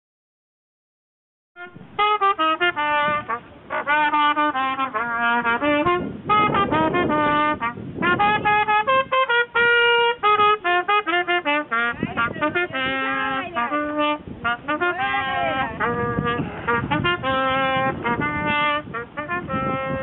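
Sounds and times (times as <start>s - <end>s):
trumpet playing quick melody: 1.6s - 20.0s.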